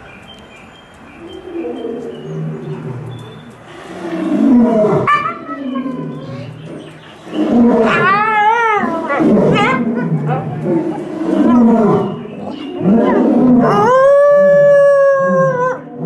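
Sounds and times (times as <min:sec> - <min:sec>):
wolf howling: 0:01.4 - 0:16.0.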